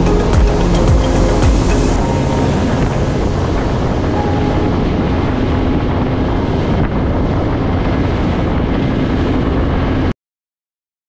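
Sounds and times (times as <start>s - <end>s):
rushing water: 0.0s - 10.0s
boat engine drone: 0.0s - 10.1s
wind buffeting microphone: 0.0s - 10.1s.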